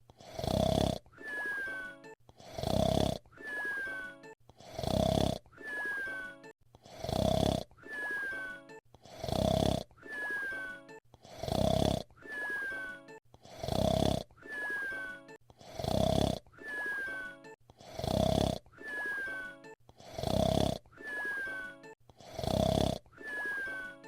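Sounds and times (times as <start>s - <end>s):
cartoon whistle snore: 0.2s - 24.0s.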